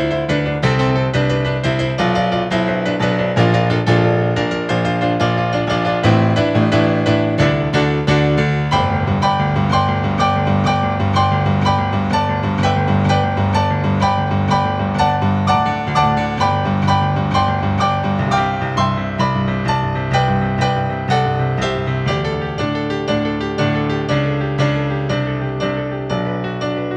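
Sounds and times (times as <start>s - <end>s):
solo piano piece: 0.0s - 26.9s.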